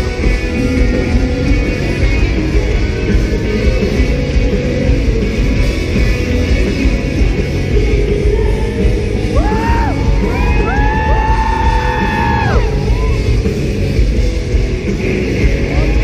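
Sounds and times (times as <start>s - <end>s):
live pop-punk band playing: 0.0s - 16.0s.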